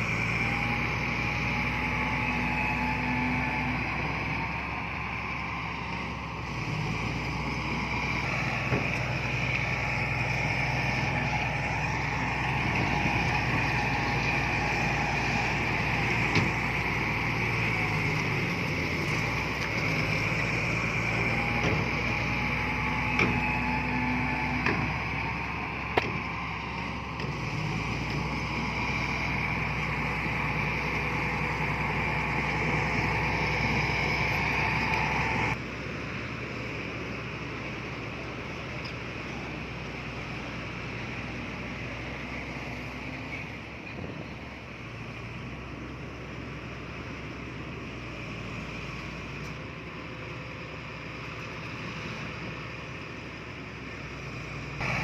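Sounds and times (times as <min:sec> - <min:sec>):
diesel machinery engine running: 0:00.0 - 0:55.0.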